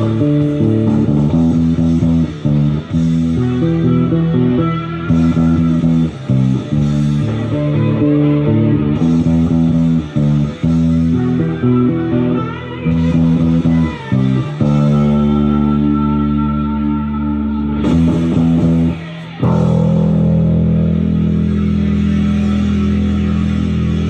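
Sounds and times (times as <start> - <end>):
electric bass guitar riff: 0.0 - 24.0.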